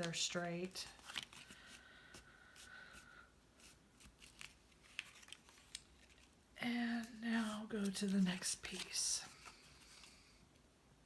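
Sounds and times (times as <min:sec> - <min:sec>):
cardstock rustling: 0:00.0 - 0:03.0, 0:03.6 - 0:06.4, 0:07.0 - 0:10.2.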